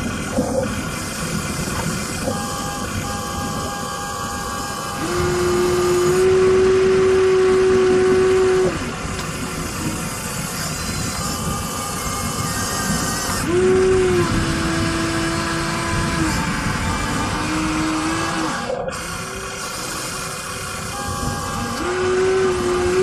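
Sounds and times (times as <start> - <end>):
electric motors whining: 0.0 - 23.0
steady tone: 0.0 - 23.0.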